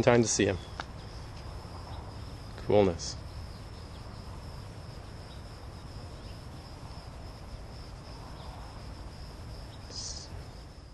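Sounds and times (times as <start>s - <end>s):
crickets trilling: 0.0s - 10.9s.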